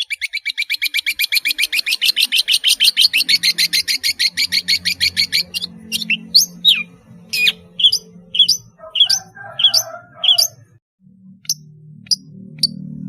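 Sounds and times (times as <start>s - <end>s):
shrike singing: 0.0s - 13.0s.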